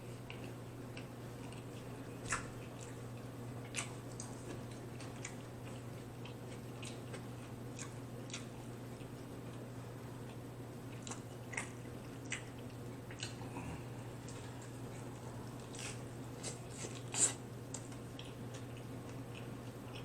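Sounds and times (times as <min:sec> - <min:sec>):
chewing with wet mouth smacks: 0:00.0 - 0:20.0.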